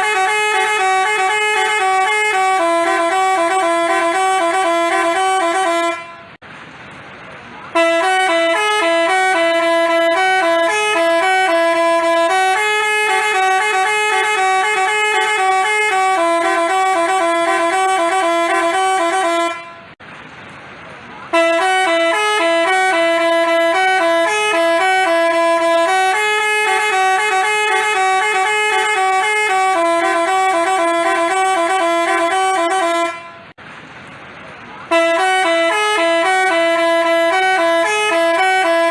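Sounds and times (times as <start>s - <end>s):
bus horn playing a tune: 0.0s - 6.4s, 7.7s - 20.0s, 21.3s - 33.6s, 34.9s - 38.9s.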